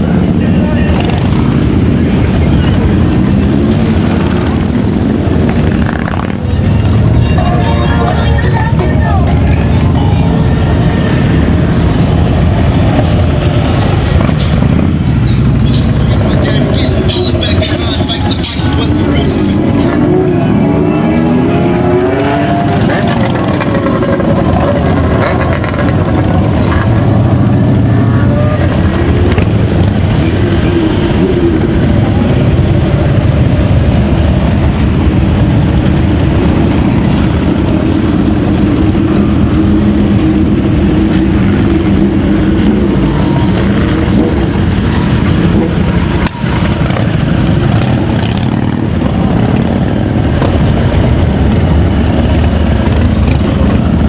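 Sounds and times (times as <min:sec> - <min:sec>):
motorcycles driving past: 0:00.0 - 0:08.7, 0:09.4 - 0:54.0
vehicle engines running: 0:00.0 - 0:54.0.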